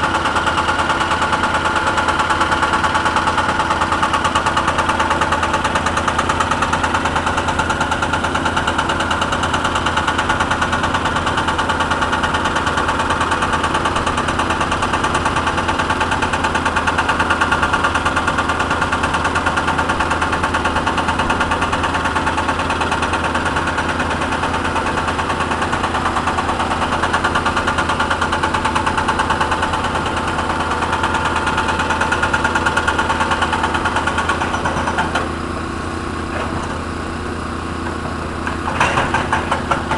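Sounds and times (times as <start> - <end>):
excavator diesel engine running: 0.0 - 39.9
hydraulic breaker hammer pounding: 0.0 - 39.9.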